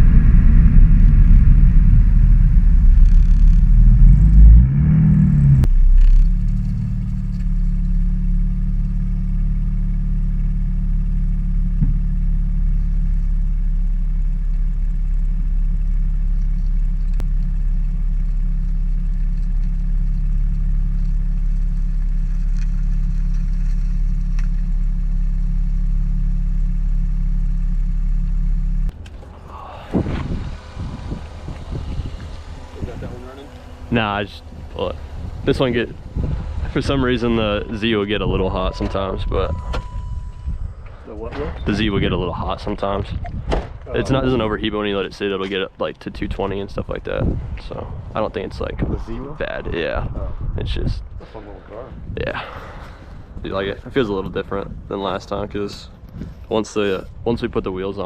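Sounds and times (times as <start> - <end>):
car engine pulling under load: 0.0 - 49.6.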